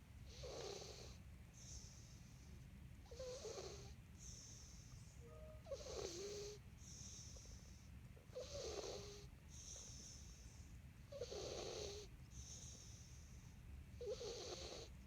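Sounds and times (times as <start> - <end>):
soft hissy breath: 0.2 - 11.2, 11.8 - 13.8
cat snoring softly: 0.3 - 15.0.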